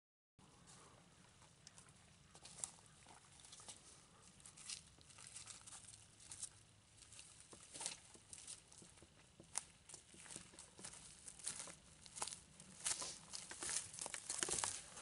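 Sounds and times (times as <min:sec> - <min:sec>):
footsteps crunching through dry grass: 0:00.5 - 0:15.0.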